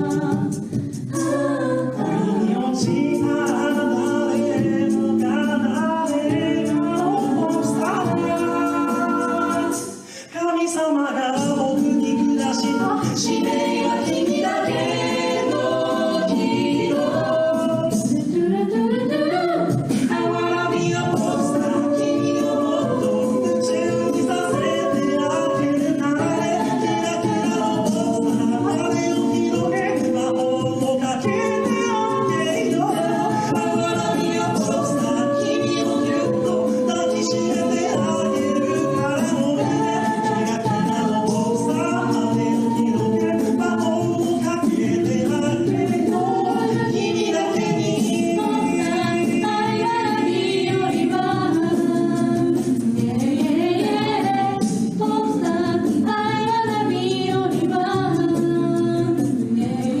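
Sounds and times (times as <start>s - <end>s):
beatboxing: 0.0s - 50.5s
a cappella group singing: 0.0s - 60.0s.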